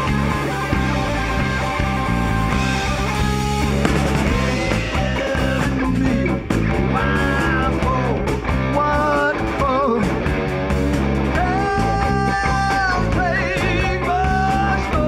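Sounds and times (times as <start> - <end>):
bass guitar: 0.0 - 15.0
drums: 0.0 - 15.0
guitar lead with bent notes: 0.0 - 15.0.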